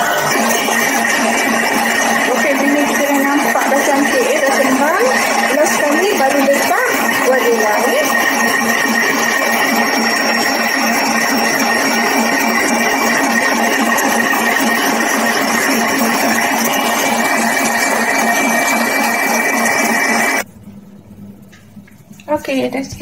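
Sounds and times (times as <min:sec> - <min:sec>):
stand mixer motor whining: 0:00.0 - 0:20.5.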